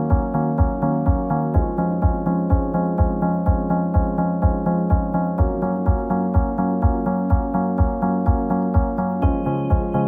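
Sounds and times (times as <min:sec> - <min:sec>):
music with low beat and chords: 0:00.0 - 0:10.0.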